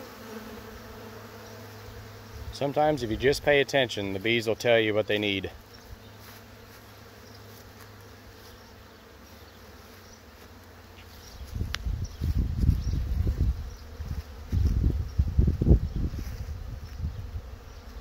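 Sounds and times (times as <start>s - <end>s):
honey bees buzzing: 0.0s - 18.0s.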